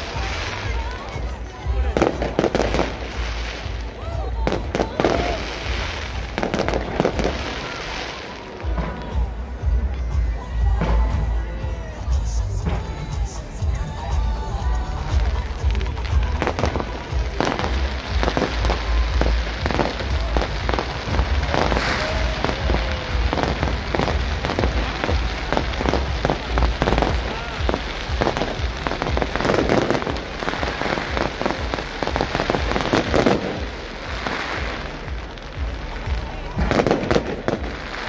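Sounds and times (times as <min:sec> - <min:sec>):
fireworks crackling and popping: 0:00.0 - 0:38.0.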